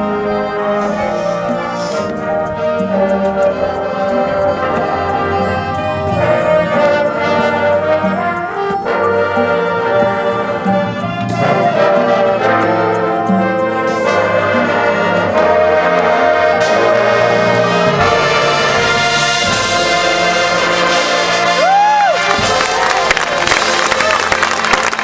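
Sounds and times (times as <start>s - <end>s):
brass chords: 0.0s - 25.0s
percussion steady beat: 0.8s - 25.0s.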